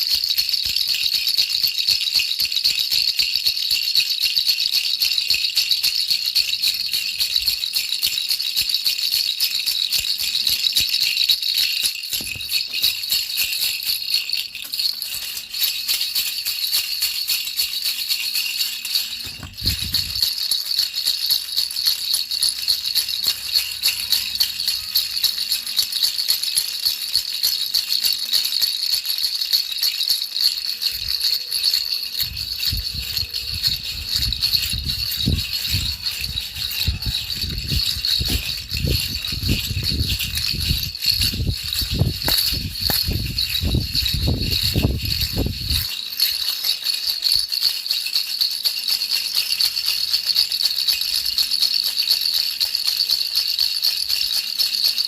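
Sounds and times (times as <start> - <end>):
baby rattle jingling: 0.0 - 55.0.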